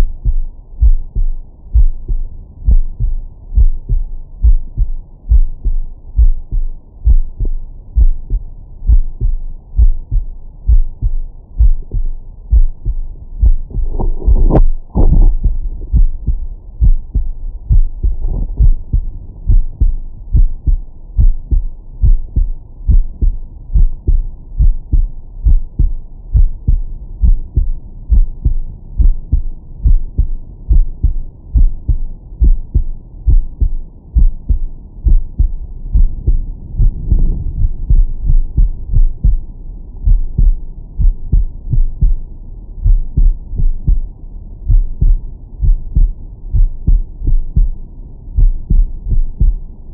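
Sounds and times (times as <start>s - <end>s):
heartbeat through stethoscope: 0.0s - 49.7s.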